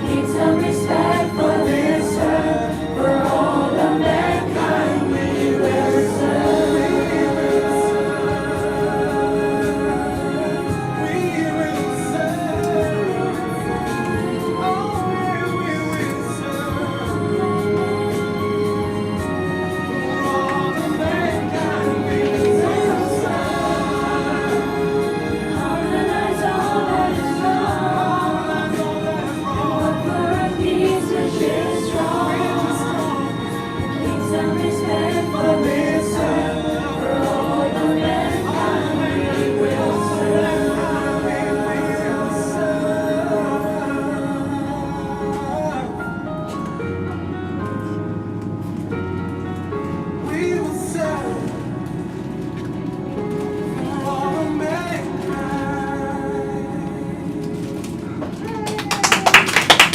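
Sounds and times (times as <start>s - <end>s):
choir singing: 0.0s - 46.0s, 53.6s - 58.2s.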